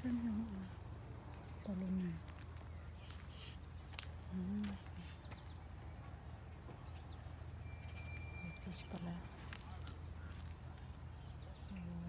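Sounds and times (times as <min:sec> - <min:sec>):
insects chirping: 0:00.0 - 0:12.0
steady low hum: 0:00.0 - 0:12.0.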